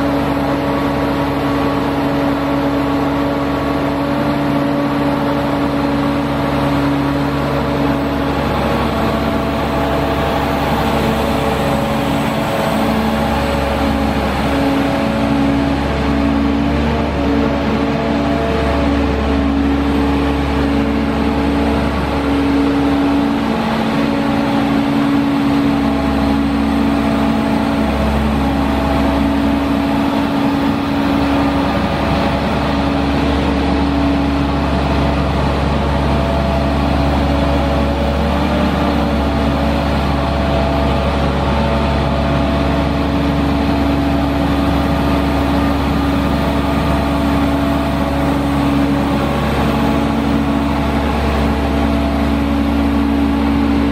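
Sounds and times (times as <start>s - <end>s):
diesel engine running steadily: 0.0s - 53.9s.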